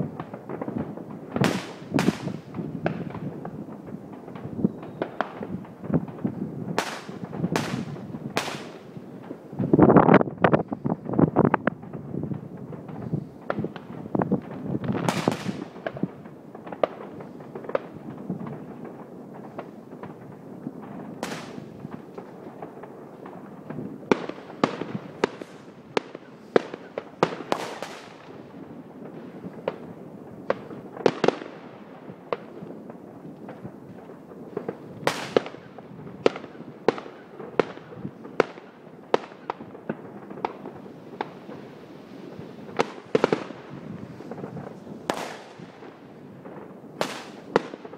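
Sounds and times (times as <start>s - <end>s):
fireworks whooshing: 0.0s - 36.8s, 40.2s - 47.9s
fireworks bangs and cracks: 0.0s - 47.9s.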